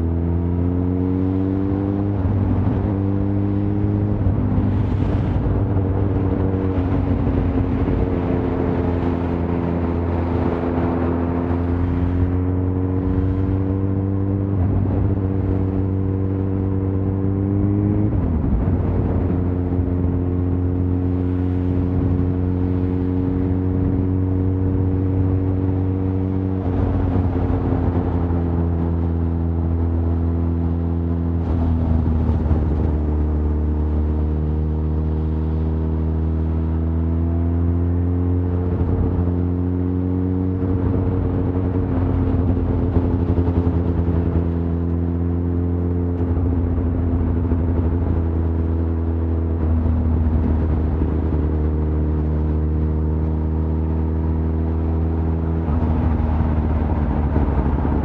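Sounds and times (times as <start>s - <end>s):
continuous rush of noise: 0.0s - 58.0s
motorcycle engine running: 0.0s - 58.0s.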